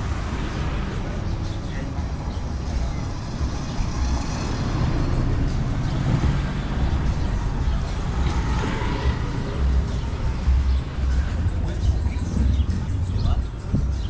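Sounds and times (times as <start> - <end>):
low rumble of traffic: 0.0 - 14.0
motor vehicle running nearby: 2.4 - 13.8.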